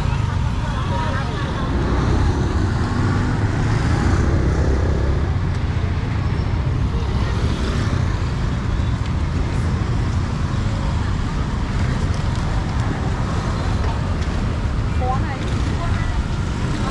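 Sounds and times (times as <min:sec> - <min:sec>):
faint voices: 0:00.0 - 0:16.9
traffic rumble: 0:00.0 - 0:16.9.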